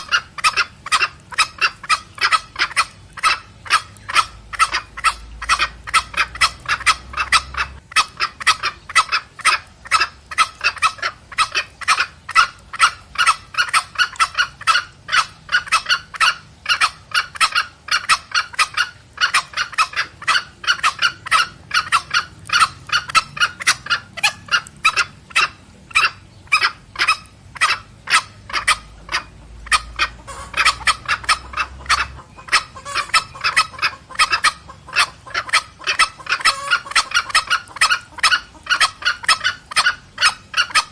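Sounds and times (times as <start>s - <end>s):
junglefowl clucking cackles: 0.0s - 40.9s.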